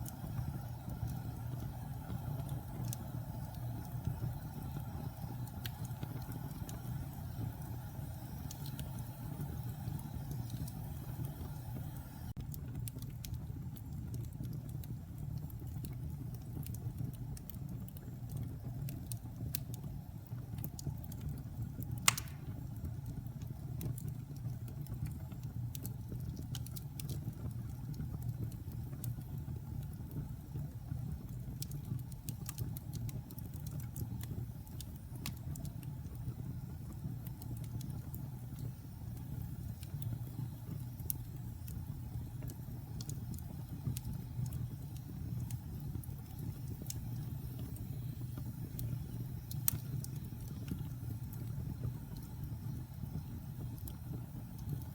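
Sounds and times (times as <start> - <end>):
logs crackling in fireplace: 0.0 - 54.9
low rumble of fire: 0.0 - 54.9.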